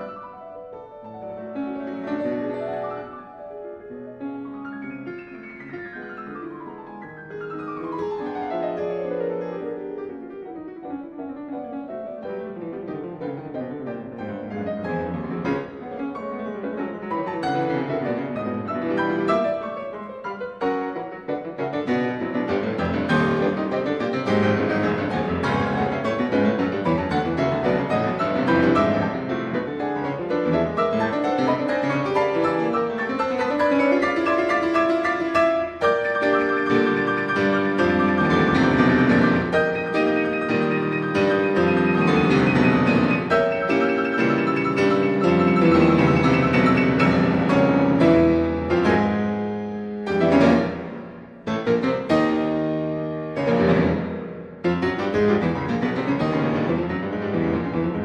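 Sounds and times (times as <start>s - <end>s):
classical piano music: 0.0s - 58.0s.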